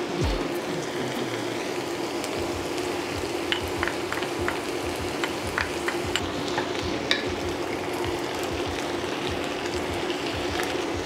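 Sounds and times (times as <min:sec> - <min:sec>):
meat and vegetables sizzling in skillet: 0:00.0 - 0:11.0.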